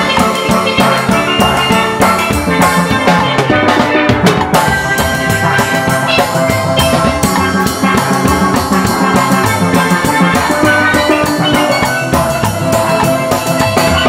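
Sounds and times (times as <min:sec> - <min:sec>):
drum kit steady beat: 0:00.0 - 0:14.0
steelpans playing ringing notes: 0:00.0 - 0:14.0.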